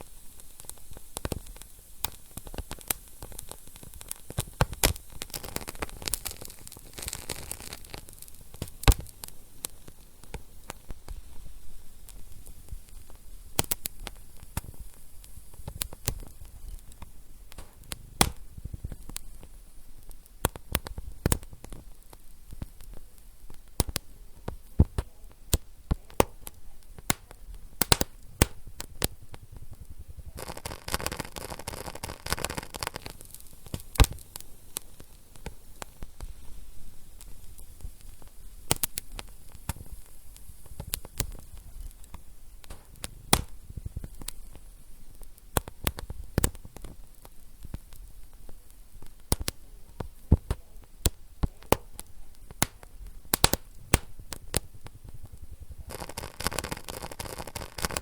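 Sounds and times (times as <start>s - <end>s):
fire hiss: 0.0s - 58.0s
wood fire crackling and popping: 0.0s - 58.0s.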